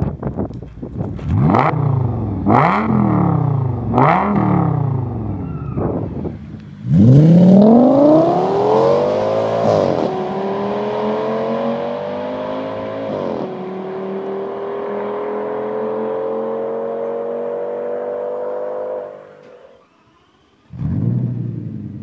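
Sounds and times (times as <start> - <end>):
car engine accelerating: 1.0 - 22.0.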